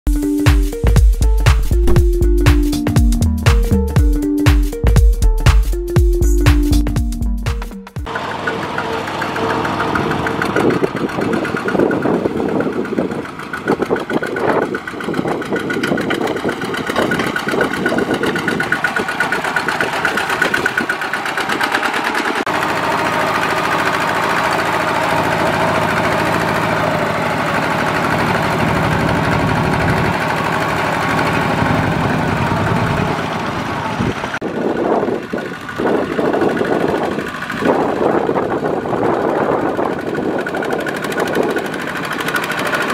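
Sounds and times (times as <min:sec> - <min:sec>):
diesel engine chugging: 0:00.2 - 0:42.9.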